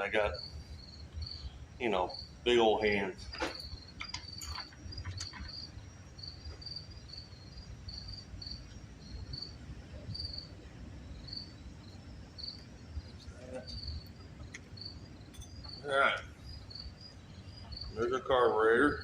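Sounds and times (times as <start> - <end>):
cricket chirping: 0.0 - 19.0
low background rumble: 0.0 - 19.0.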